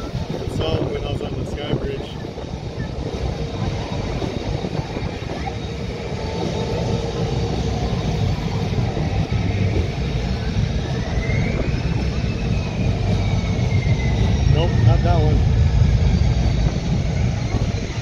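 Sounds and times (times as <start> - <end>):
jet engine rumble and whine: 0.0 - 18.0.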